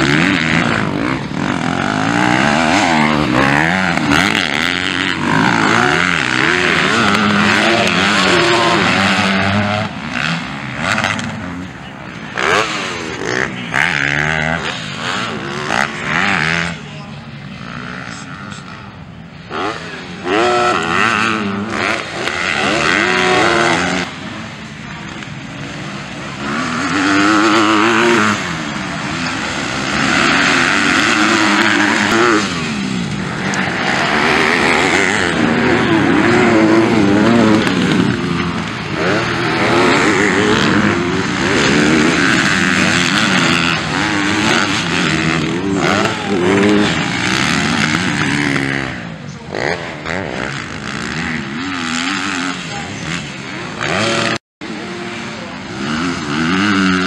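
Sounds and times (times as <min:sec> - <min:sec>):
motocross bikes revving past: 0:00.0 - 0:57.0.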